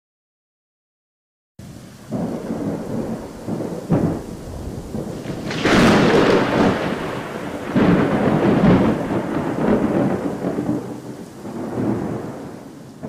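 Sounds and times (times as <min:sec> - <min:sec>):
steady rain: 0:01.6 - 0:13.0
thunder rumbling: 0:01.6 - 0:13.0.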